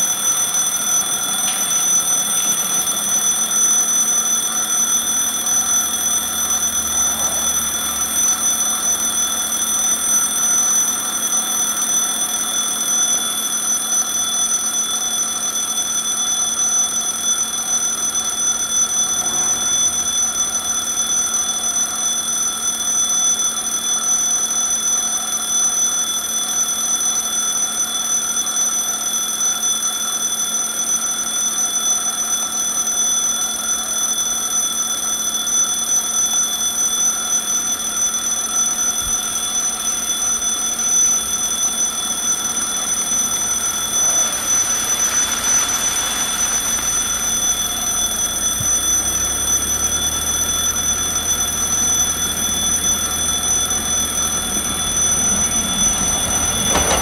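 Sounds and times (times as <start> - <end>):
crossing warning bell ringing: 0.0 - 24.6, 34.8 - 57.0.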